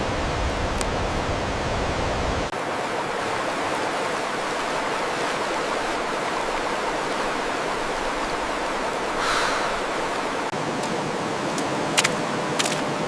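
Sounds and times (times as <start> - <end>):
running water rushing: 2.5 - 13.0.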